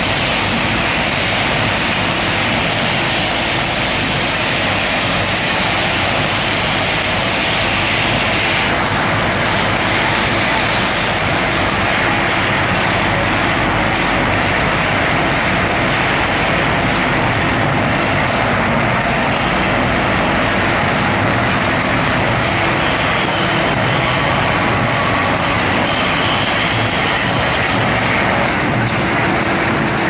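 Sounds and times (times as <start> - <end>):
rolling mill machinery noise: 0.0 - 30.0.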